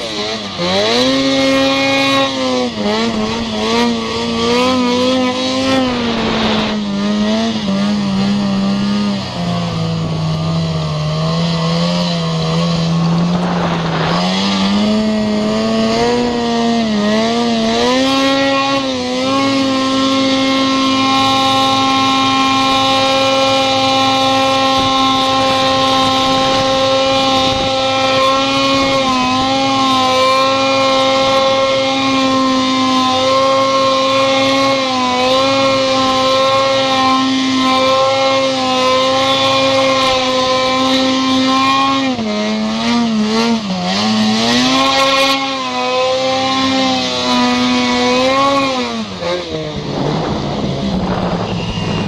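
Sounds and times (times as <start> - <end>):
vehicle engine at high revs: 0.0 - 52.0.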